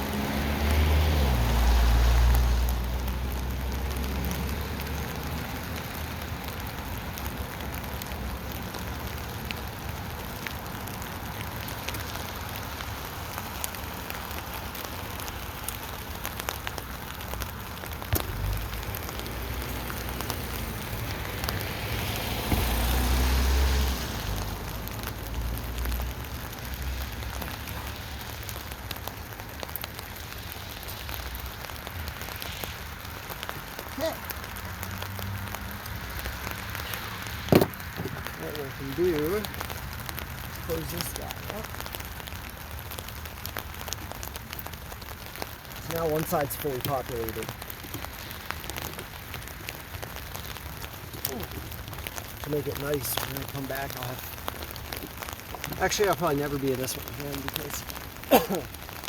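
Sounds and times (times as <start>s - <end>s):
rain pattering on a tent: 0.0s - 59.0s.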